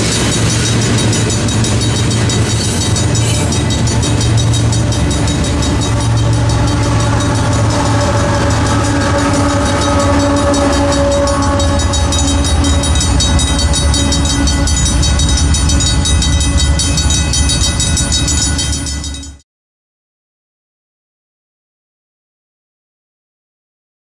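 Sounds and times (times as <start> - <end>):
freight train rumbling past: 0.0 - 19.4
held tones: 0.0 - 19.4.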